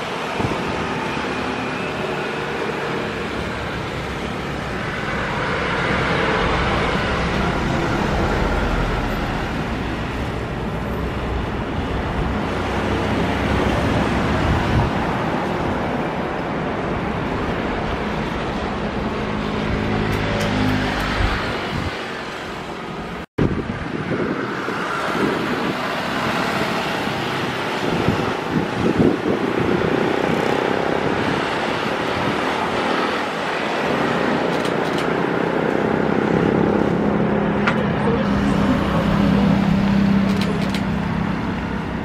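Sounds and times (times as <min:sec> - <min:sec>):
jet engines at takeoff power: 0:00.0 - 0:42.0.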